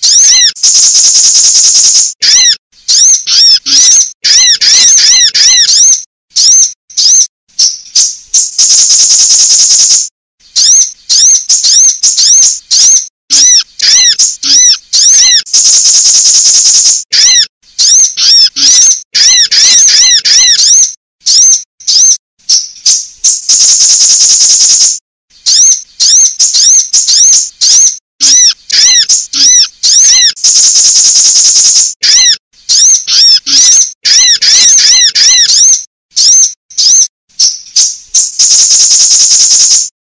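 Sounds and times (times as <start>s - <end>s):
sunbirds chirping and trilling: 0.0s - 39.2s.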